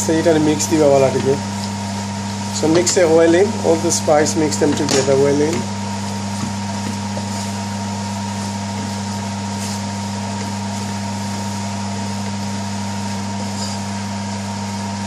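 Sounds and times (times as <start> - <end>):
mechanical hum with high tone: 0.0 - 15.0.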